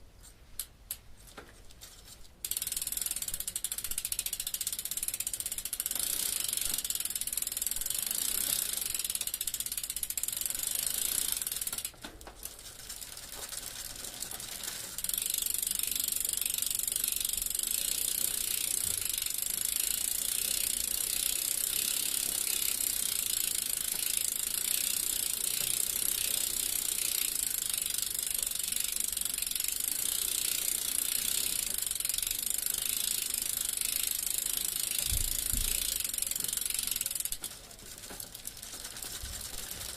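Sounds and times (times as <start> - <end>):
bicycle freewheel ratcheting: 2.4 - 39.9.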